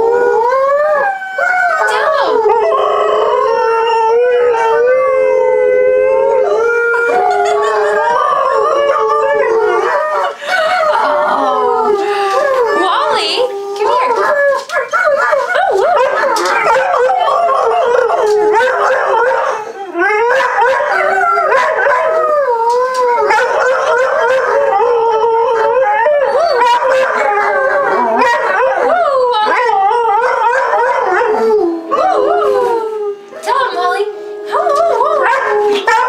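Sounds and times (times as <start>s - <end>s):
dog howling: 0.0s - 36.0s.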